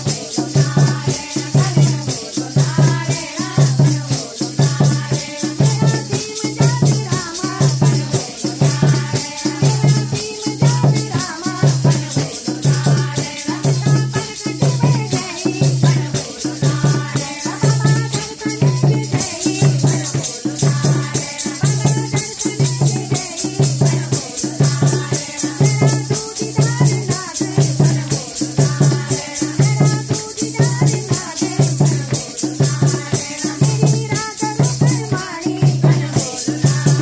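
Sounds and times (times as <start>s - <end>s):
group of women singing: 0.0s - 37.0s
rattling shaken percussion: 0.0s - 37.0s
steady drum beat: 0.0s - 37.0s.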